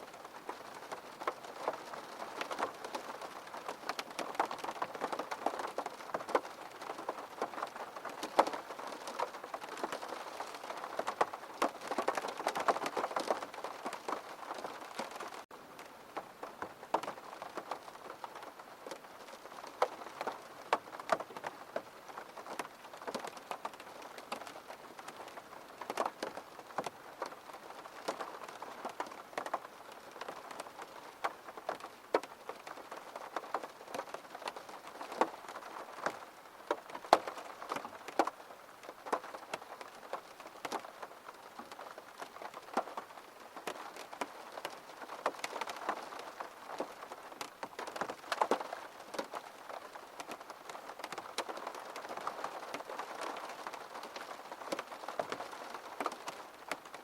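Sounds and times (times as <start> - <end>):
rainfall wash: 0.0 - 57.0
raindrops ticking on hard surface: 0.1 - 57.0.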